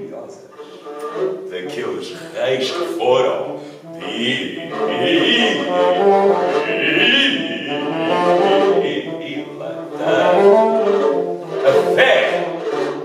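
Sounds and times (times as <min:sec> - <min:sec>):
early-music trio slow melody: 0:00.0 - 0:13.0.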